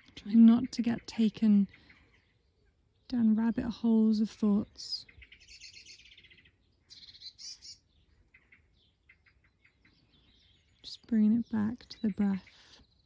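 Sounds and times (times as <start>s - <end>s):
faint songbirds singing: 0.0s - 13.0s.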